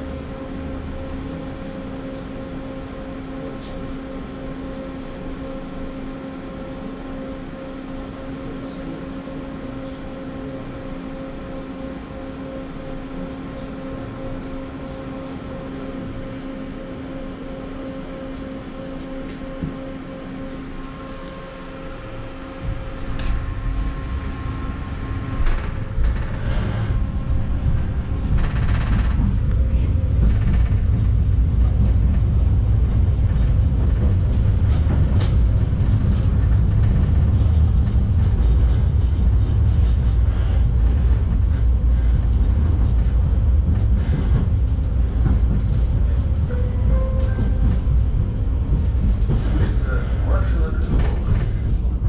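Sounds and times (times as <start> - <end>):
rumble of tram wheels: 0.0 - 52.0
tram hum: 0.0 - 52.0.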